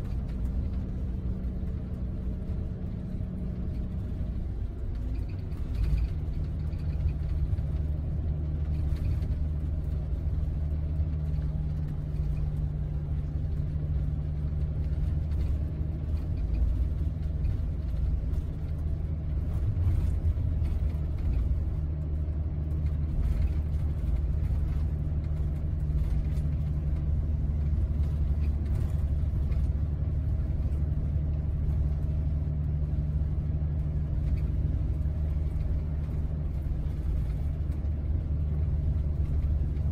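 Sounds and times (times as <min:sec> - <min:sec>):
engine and road rumble drone: 0:00.0 - 0:39.9.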